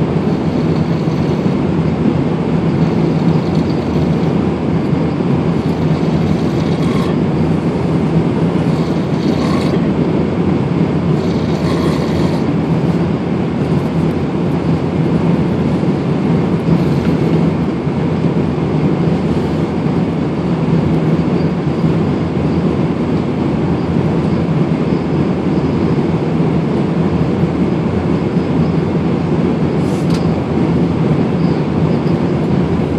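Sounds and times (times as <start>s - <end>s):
airliner cabin drone: 0.0s - 32.9s.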